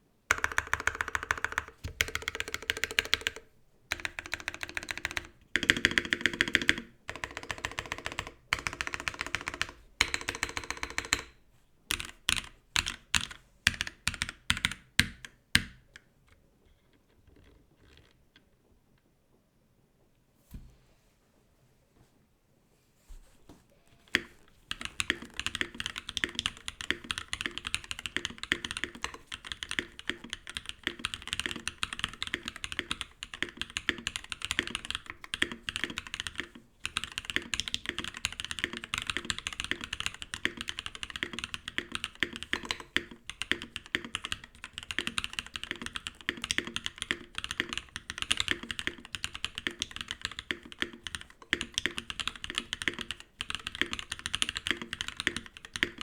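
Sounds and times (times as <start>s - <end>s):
mechanical keyboard typing: 0.3s - 15.9s, 24.0s - 56.0s.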